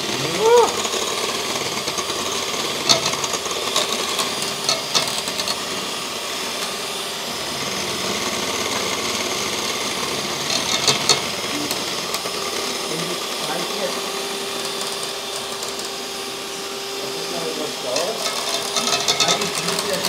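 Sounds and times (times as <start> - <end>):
electric hand mixer whipping cream: 0.0 - 20.0.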